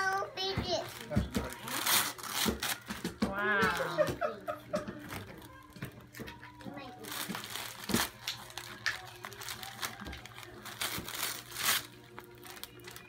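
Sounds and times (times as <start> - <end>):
wrapping paper crinkling and tearing: 0.8 - 4.1, 5.1 - 13.0.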